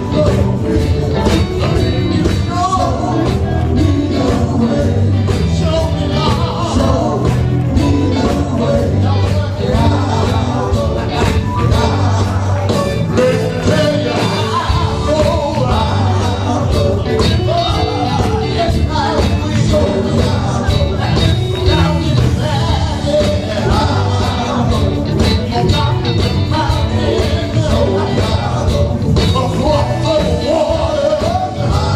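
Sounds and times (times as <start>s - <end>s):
bass guitar: 0.0s - 31.9s
drums keeping a steady beat: 0.0s - 31.9s
gospel-style vocals: 0.0s - 31.9s.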